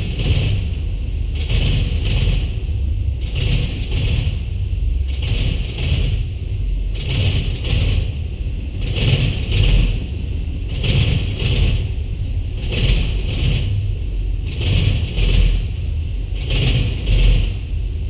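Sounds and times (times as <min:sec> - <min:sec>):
double clack of rail joints: 0:00.0 - 0:06.4, 0:07.0 - 0:08.2, 0:08.8 - 0:17.8
train wheels rumbling on rail: 0:00.0 - 0:18.0.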